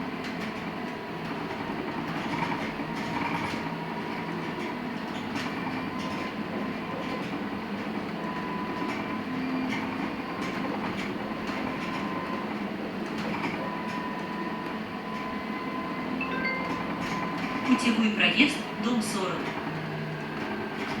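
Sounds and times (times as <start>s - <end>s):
bus road and running noise: 0.0s - 16.2s, 17.0s - 21.0s.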